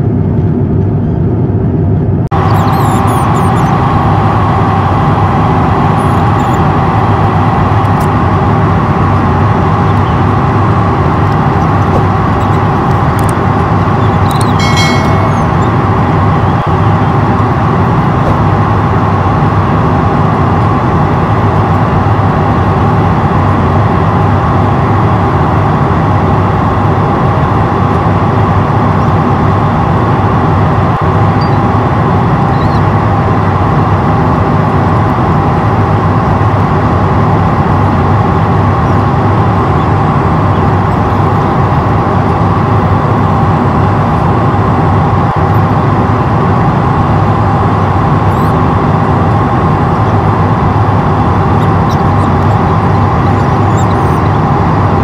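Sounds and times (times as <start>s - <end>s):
aircraft cabin engine roar: 0.0s - 55.0s
faint steady whine: 0.0s - 55.0s.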